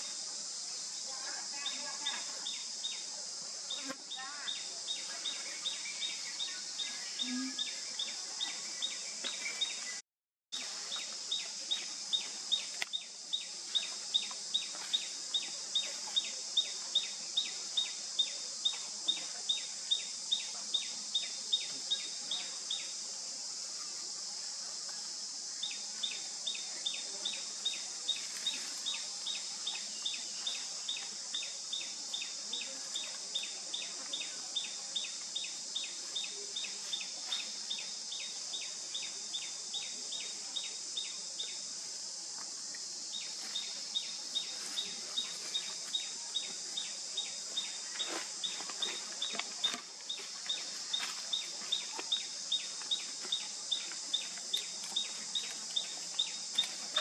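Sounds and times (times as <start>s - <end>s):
sharp insect chirp: 0.0s - 10.0s, 10.6s - 57.0s.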